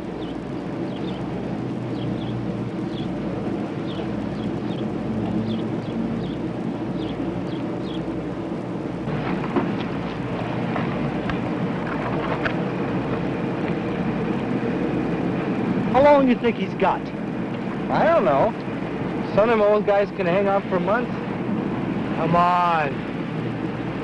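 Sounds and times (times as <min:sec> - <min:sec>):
rumbling outdoor background noise: 0:00.0 - 0:24.0.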